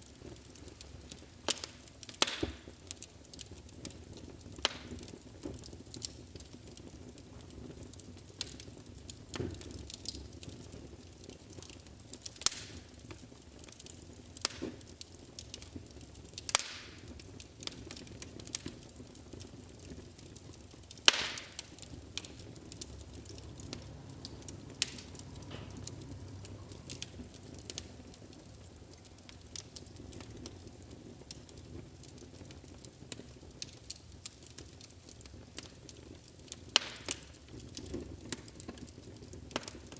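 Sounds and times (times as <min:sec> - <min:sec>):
fire rumbling: 0:00.0 - 0:39.9
wood fire crackling and popping: 0:00.0 - 0:39.9.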